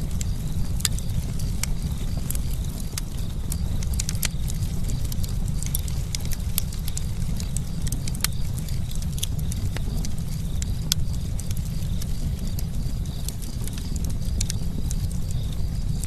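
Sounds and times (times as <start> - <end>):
campfire crackling and popping: 0.0 - 16.0
low rumble of burning fire: 0.0 - 16.0.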